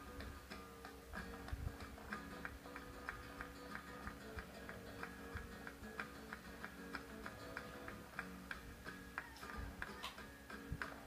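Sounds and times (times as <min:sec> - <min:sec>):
faint music: 0:00.0 - 0:11.0
flamenco dancing clicks: 0:00.0 - 0:11.0.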